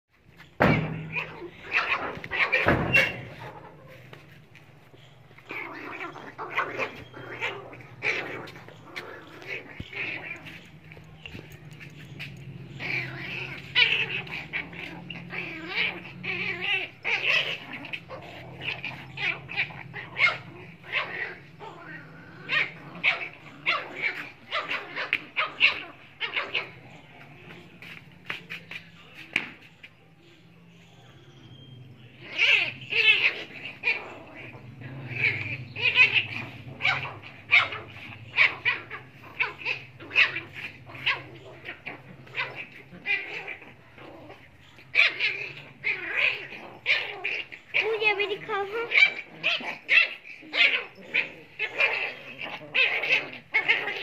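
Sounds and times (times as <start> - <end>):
puppies yipping and whining: 0.1 - 54.0.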